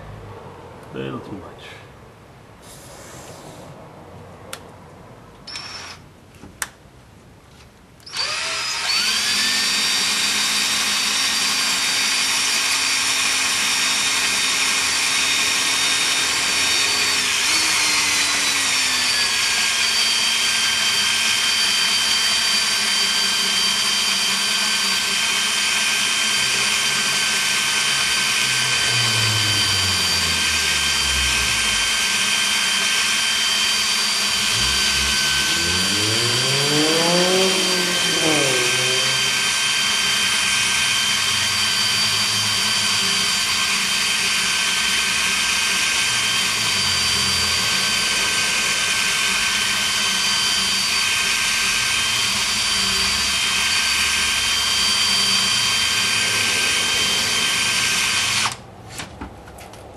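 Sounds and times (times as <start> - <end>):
cordless drill whining: 5.4 - 6.0, 8.0 - 58.7.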